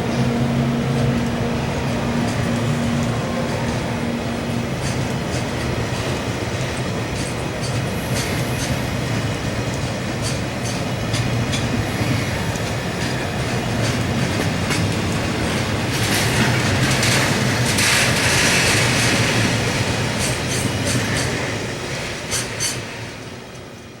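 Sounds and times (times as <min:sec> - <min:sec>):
wheels clicking over rail joints: 0:00.0 - 0:23.8
freight train rumbling past: 0:00.0 - 0:24.0.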